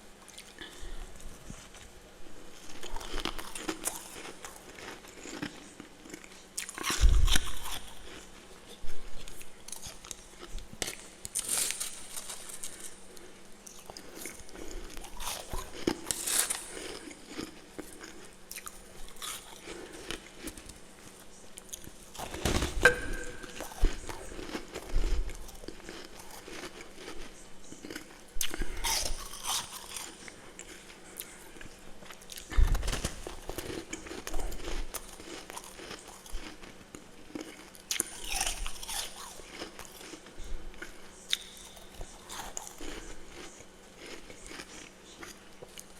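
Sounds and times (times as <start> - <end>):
person chewing crunchy frost: 0.2 - 45.9.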